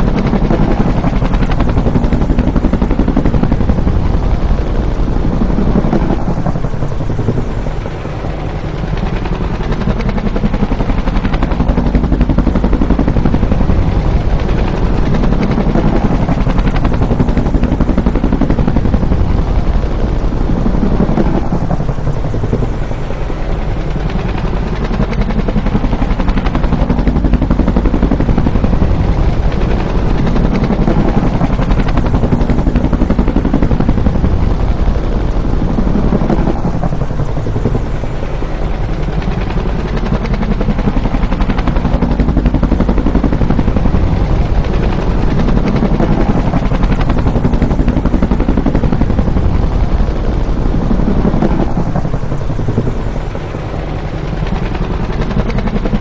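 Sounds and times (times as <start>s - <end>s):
helicopter flying by: 0.0s - 56.0s.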